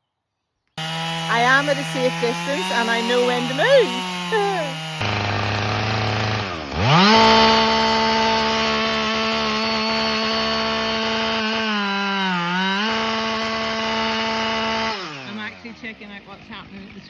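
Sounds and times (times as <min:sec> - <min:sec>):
chainsaw cutting wood: 0:00.8 - 0:17.0.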